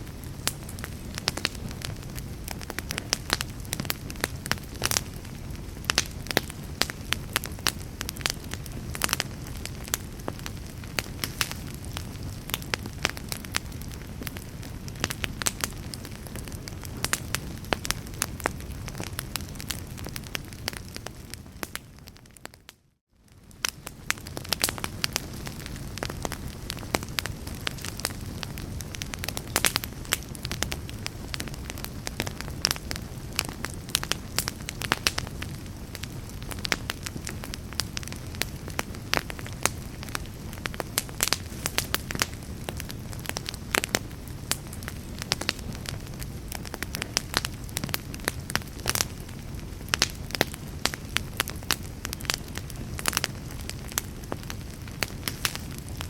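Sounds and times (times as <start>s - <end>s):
fire crackling and popping: 0.0s - 56.0s
flames rumbling: 0.0s - 56.0s.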